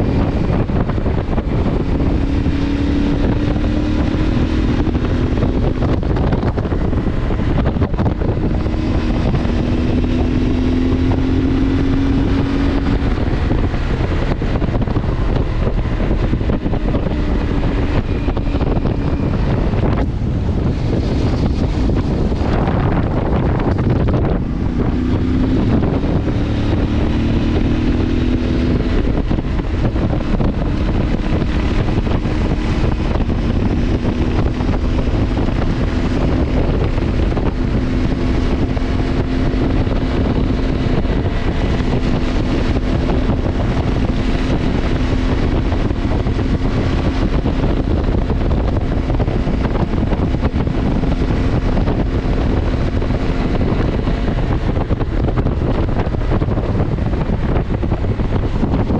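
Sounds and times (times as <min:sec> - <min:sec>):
motorcycle engine drone: 0:00.0 - 0:58.9
wind noise on microphone: 0:00.0 - 0:58.9.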